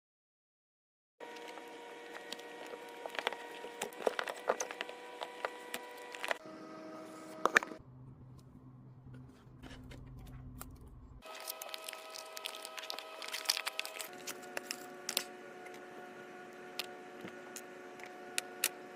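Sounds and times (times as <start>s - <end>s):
steady humming tone: 1.2s - 18.9s.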